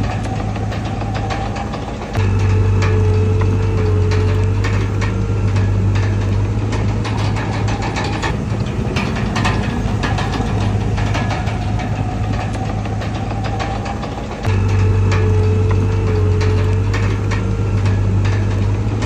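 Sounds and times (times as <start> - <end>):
bulldozer diesel engine running: 0.0 - 19.0
short knocks and clatter: 0.0 - 19.0.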